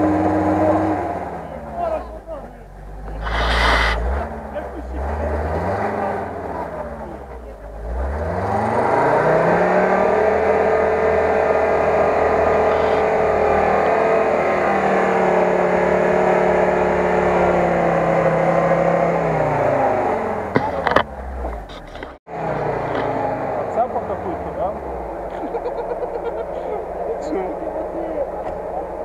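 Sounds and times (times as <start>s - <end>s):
engine revving under load: 0.0s - 29.0s.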